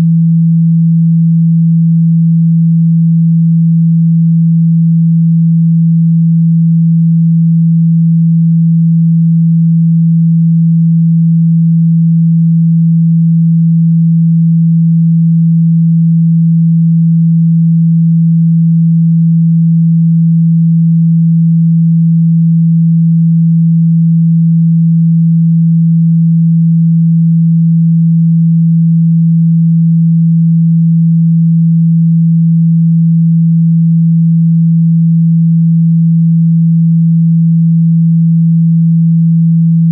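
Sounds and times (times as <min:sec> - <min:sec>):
steady low pure tone: 0:00.0 - 0:39.9.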